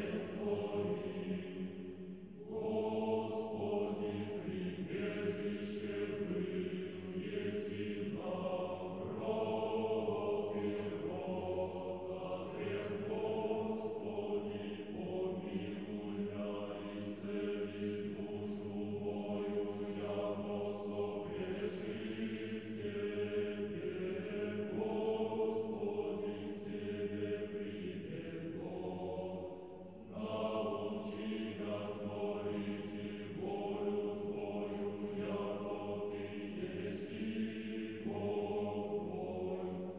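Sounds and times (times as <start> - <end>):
choir chanting: 0.0 - 39.9.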